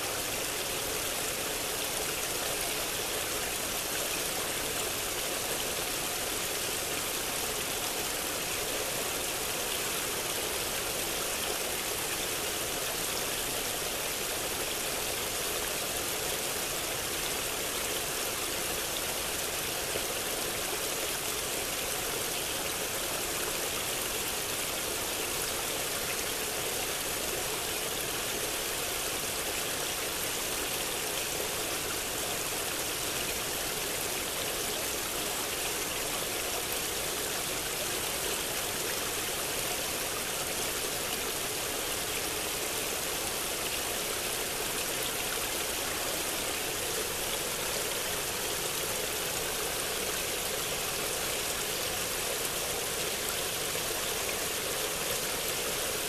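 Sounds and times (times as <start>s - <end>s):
creek water burbling: 0.0s - 56.0s.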